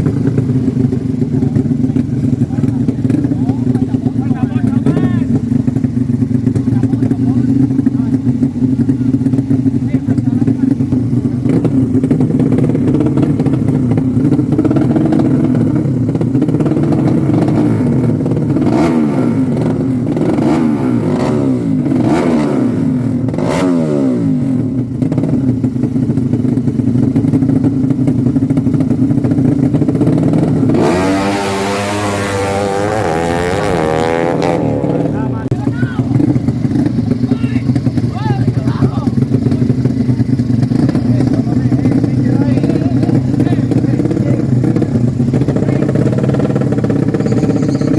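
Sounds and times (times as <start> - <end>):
higher engine note revving: 0.0 - 25.6, 28.8 - 47.9
motorcycle engines revving: 0.0 - 47.9.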